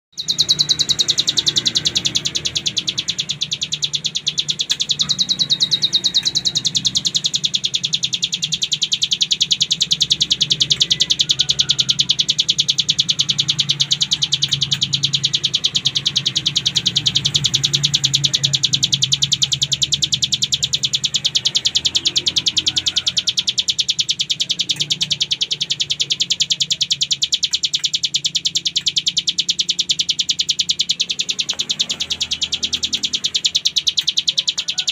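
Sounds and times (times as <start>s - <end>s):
bird singing a rapid high trill: 0.1s - 34.9s.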